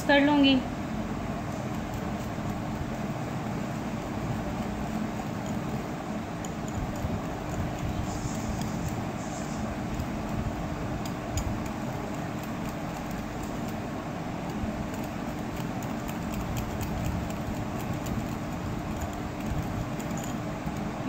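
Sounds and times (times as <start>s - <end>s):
low hum and hiss: 0.0s - 21.0s
whisk beating mixture in glass bowl: 1.6s - 21.0s.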